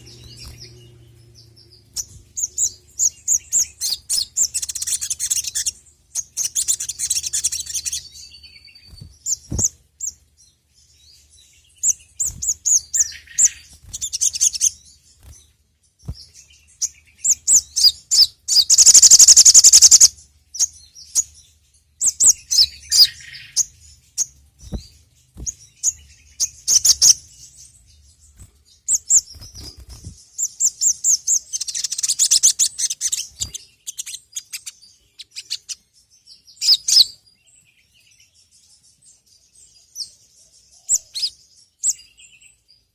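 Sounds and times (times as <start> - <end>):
sunbird twittering: 0.0 - 38.8.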